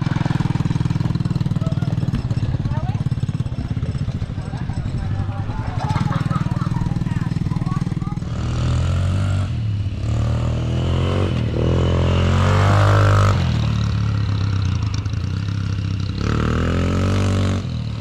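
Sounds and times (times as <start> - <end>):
atv engine revving: 0.0 - 18.0
atv engines running: 0.0 - 18.0.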